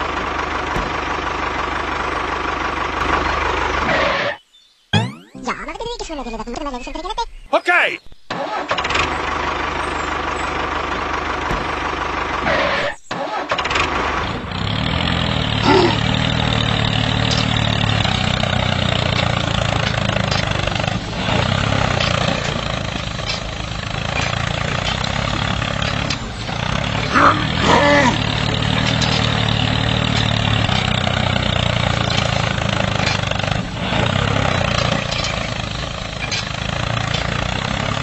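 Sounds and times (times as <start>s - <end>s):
tractor engine running: 0.0s - 4.4s, 5.5s - 38.0s.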